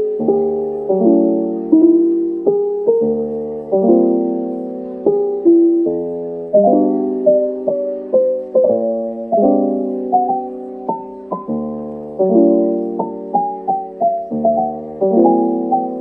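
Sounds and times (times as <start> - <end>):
soft piano tune: 0.0 - 16.0.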